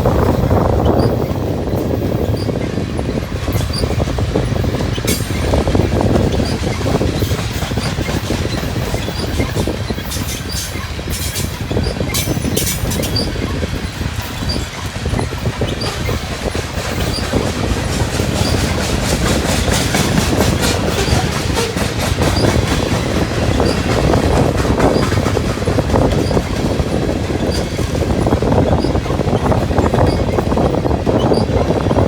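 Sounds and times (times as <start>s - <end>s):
train wheels rumbling on rails: 0.0s - 32.0s
wheels clacking over rail joints: 0.0s - 32.0s.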